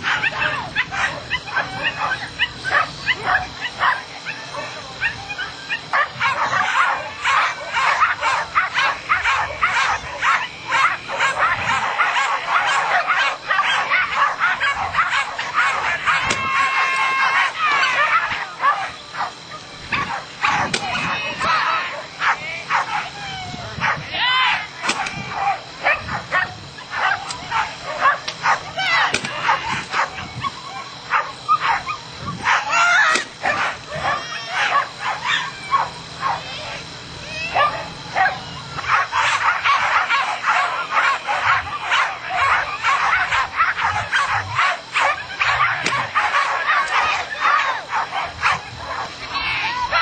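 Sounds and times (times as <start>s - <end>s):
dog barking rapidly: 0.0s - 23.2s, 23.8s - 24.1s, 24.7s - 36.6s, 37.5s - 49.2s.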